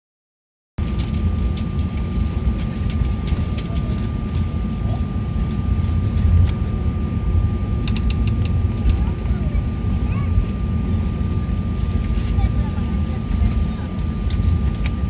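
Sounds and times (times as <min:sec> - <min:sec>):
low rumble of engines and undercarriage: 0:00.8 - 0:15.0.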